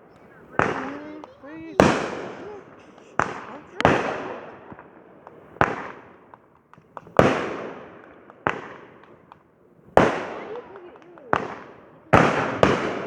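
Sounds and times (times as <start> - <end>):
fireworks booming: 0.0 - 13.0
fireworks crackles: 0.0 - 13.0.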